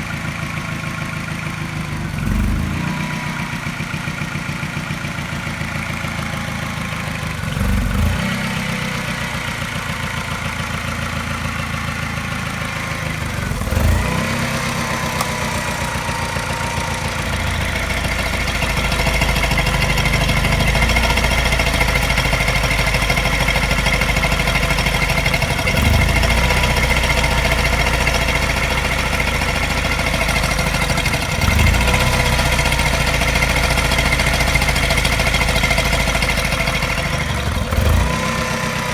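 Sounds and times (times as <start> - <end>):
car engine idling with misfire: 0.0 - 38.9.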